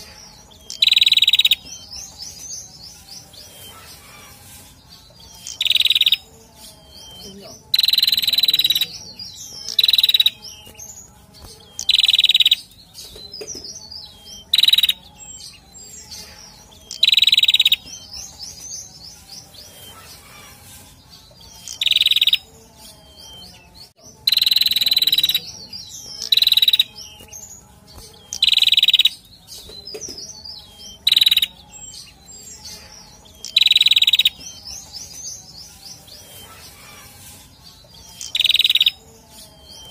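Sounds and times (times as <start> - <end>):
soft high chirps: 0.0 - 13.2, 13.8 - 23.6, 24.2 - 29.4, 30.4 - 39.9.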